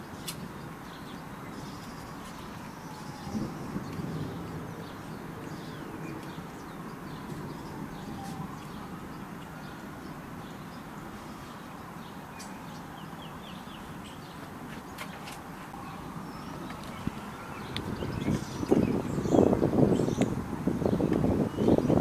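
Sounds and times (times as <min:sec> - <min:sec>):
birds chirping: 0:00.0 - 0:22.0
outdoor background noise: 0:00.0 - 0:22.0
distant warning siren wailing: 0:01.4 - 0:14.1, 0:15.7 - 0:22.0.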